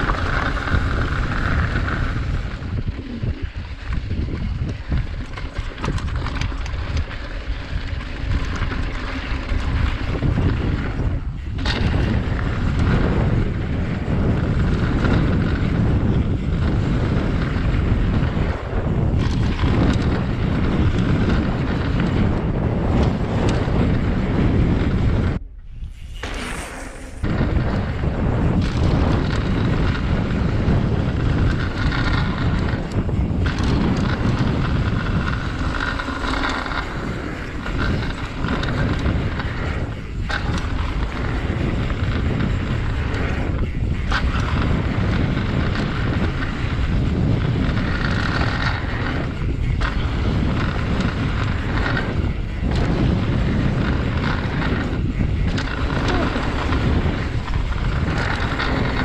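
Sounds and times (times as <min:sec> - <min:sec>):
bike tyres on dirt trail: 0:00.0 - 0:59.0
wind rushing on microphone: 0:00.0 - 0:59.0.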